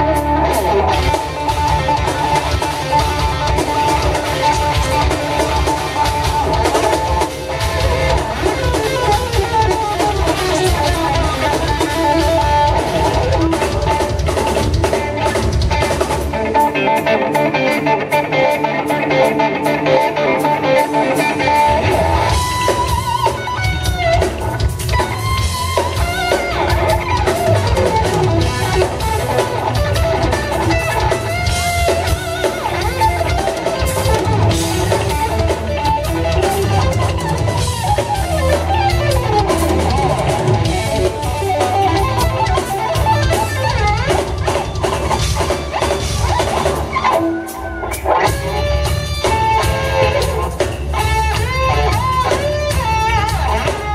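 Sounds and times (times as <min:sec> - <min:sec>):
bass guitar: 0:00.0 - 0:53.9
drum kit: 0:00.0 - 0:53.9
electric guitar lead: 0:00.0 - 0:53.9.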